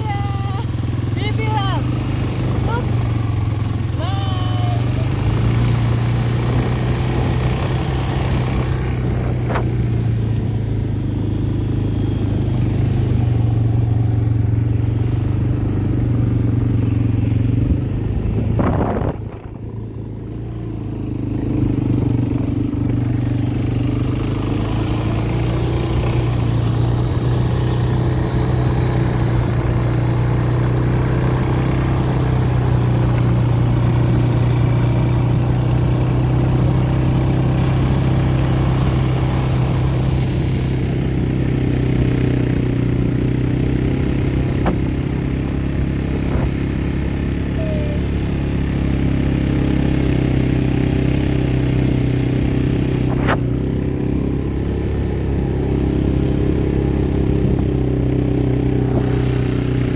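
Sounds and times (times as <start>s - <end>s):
quad bike engine: 0.0s - 59.9s.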